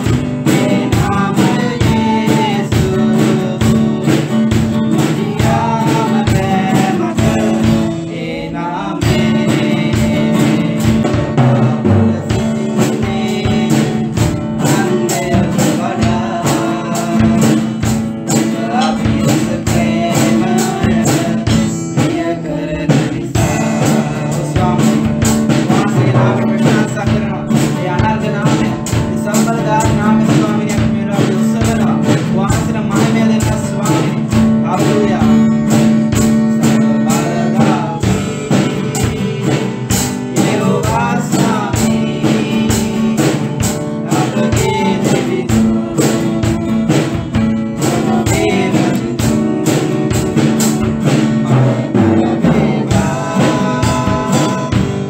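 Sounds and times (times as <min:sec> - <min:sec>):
man and woman singing: 0:00.0 - 0:55.0
strummed acoustic guitar: 0:00.0 - 0:55.0.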